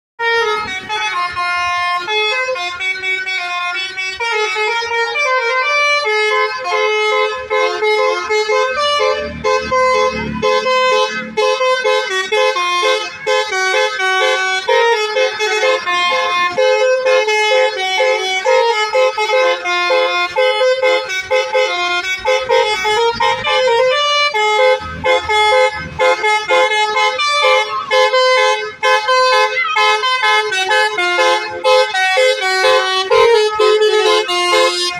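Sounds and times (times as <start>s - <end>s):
musical bus horn melody: 0.2s - 34.9s.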